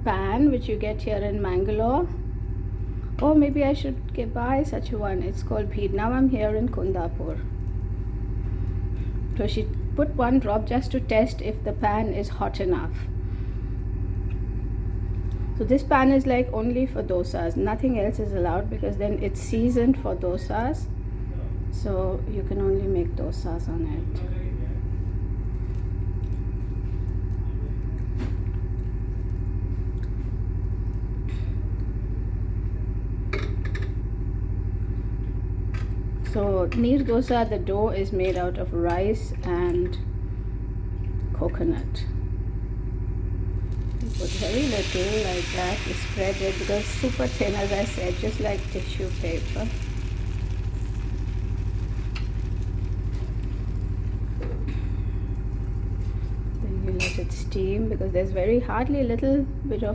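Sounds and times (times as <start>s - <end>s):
low mechanical hum: 0.0s - 59.9s
motor rumbling: 0.0s - 59.9s.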